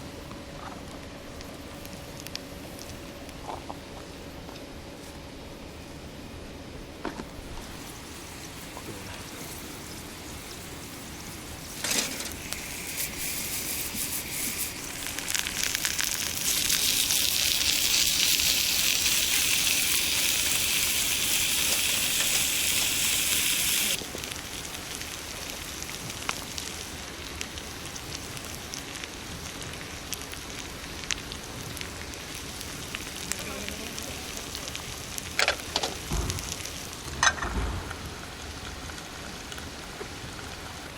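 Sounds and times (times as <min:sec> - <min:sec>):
fire crackling: 0:00.0 - 0:40.9
food sizzling: 0:07.4 - 0:40.9.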